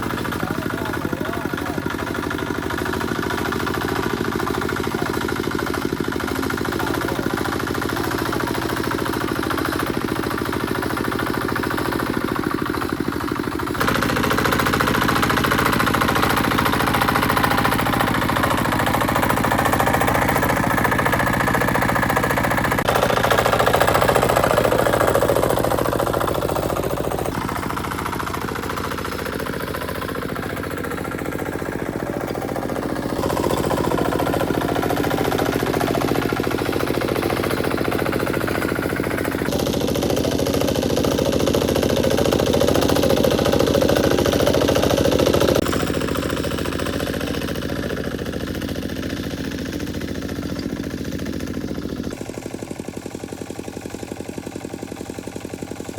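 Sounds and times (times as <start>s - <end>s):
tractor engine knocking: 0.0s - 55.9s.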